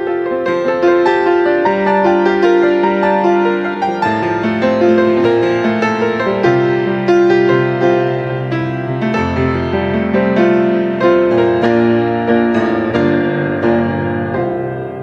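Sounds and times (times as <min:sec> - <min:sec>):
piano slow gentle melody: 0:00.0 - 0:15.0.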